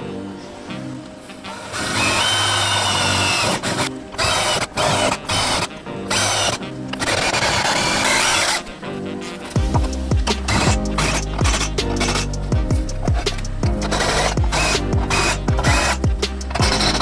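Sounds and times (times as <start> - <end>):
background music: 0.0 - 17.0
drill grinding through metal: 1.5 - 8.7, 9.7 - 12.4, 13.0 - 17.0.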